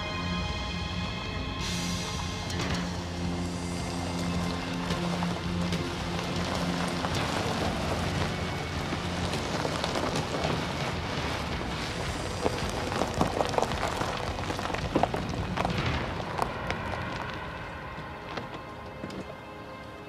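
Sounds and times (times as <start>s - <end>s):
car tyres crunching on gravel: 2.0s - 20.0s.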